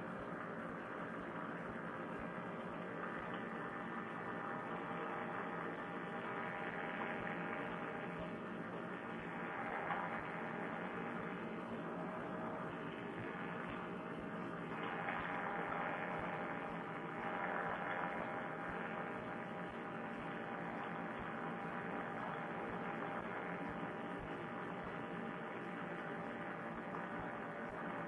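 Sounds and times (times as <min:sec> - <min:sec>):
muffled engine drone: 0:00.1 - 0:28.0.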